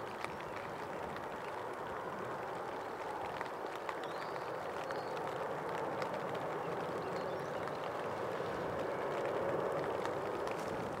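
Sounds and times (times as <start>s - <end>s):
jet airliner engines roaring: 0.0s - 11.0s.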